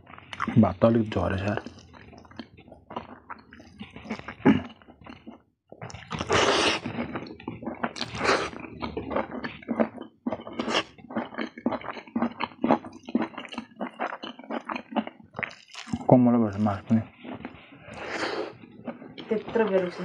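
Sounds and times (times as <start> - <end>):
wet chewing and lip smacking: 0.0 - 0.7, 1.4 - 20.0.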